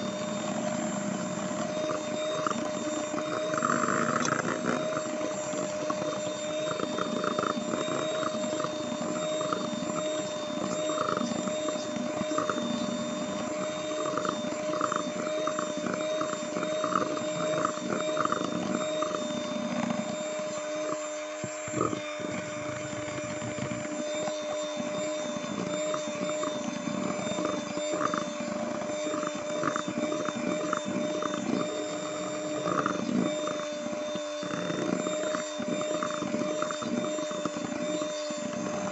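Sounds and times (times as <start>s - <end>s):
beaters churning in metal bowl: 0.0s - 38.9s
electric hand mixer whining: 0.0s - 38.9s.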